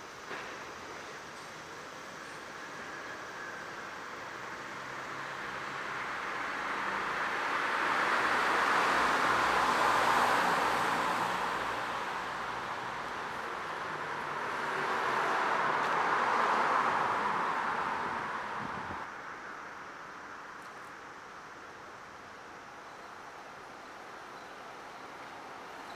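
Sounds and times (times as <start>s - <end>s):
vehicles passing with tyre noise: 0.0s - 25.9s.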